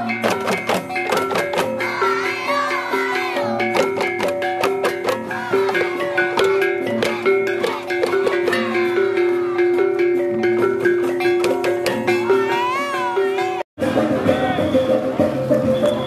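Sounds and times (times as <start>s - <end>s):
mallet percussion music: 0.0s - 16.0s.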